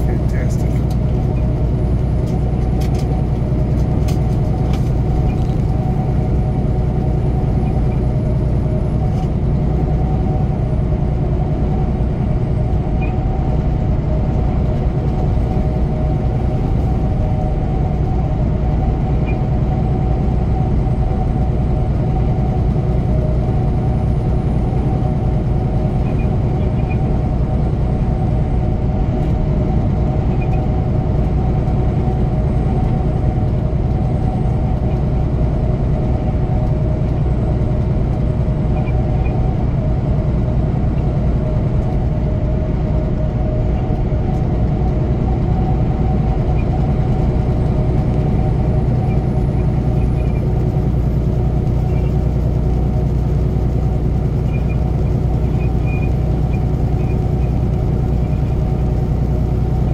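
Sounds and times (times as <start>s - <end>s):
diesel truck engine drone: 0.0s - 59.9s
tyre and road noise: 0.0s - 59.9s.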